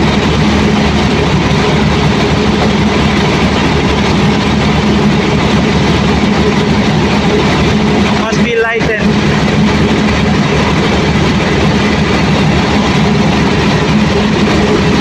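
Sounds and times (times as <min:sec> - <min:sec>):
diesel generator engine running: 0:00.0 - 0:15.0.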